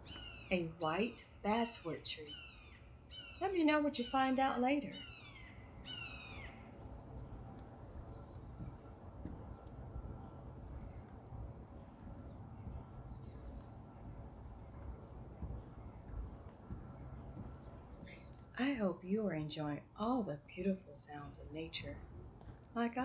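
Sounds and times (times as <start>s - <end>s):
small bird chirping: 0.0s - 18.7s.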